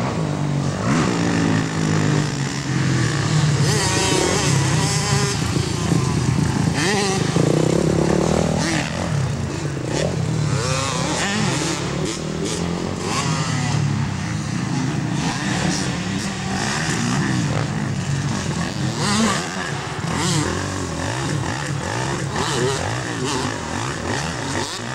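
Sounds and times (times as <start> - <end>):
motocross bike engines revving: 0.0 - 24.9.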